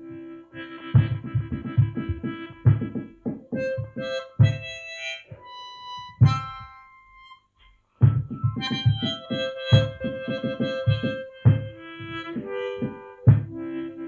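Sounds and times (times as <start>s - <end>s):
harmonica playing chords: 0.0s - 14.0s.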